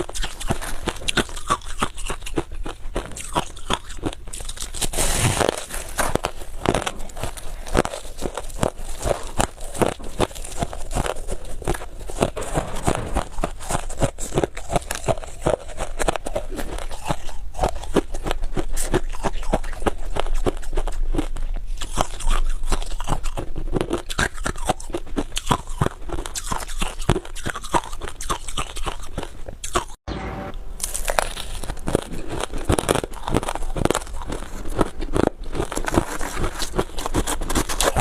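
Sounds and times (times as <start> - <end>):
frost being chewed crunching: 0.0 - 30.0, 30.8 - 38.0.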